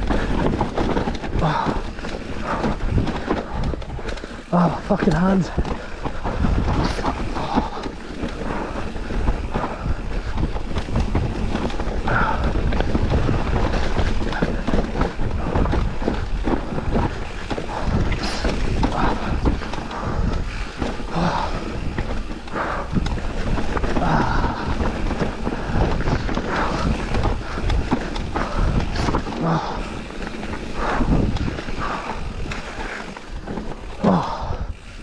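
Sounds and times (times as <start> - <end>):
bike knocks and rattles: 0.0 - 35.0
tyres rumbling on dirt: 0.0 - 35.0
wind buffeting microphone: 0.0 - 35.0.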